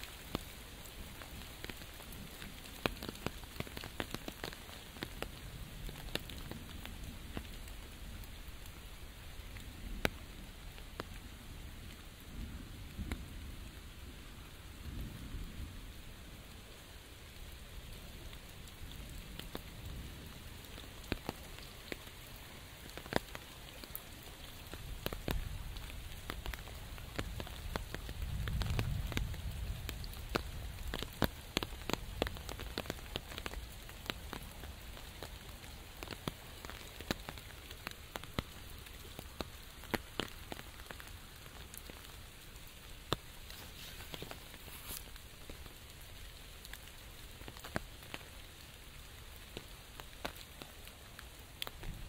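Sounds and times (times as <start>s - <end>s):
raindrops ticking on umbrella: 0.0s - 52.0s
steady rain: 0.0s - 52.0s.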